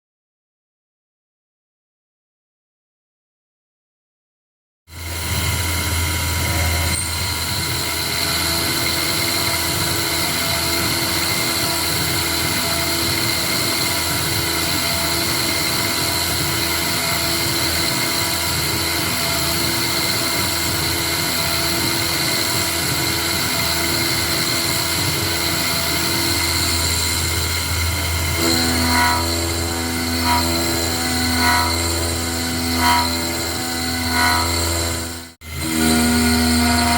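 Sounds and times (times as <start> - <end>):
high machine whine: 4.9 - 36.9
low machine tone: 5.0 - 36.9
milling machine running: 5.0 - 36.9.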